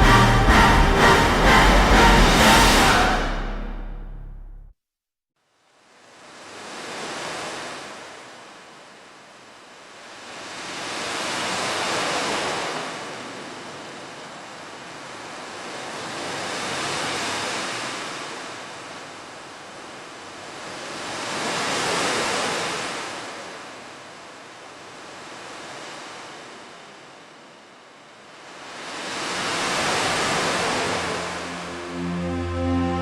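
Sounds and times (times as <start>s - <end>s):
ocean waves washing: 0.0s - 3.9s, 6.1s - 33.0s.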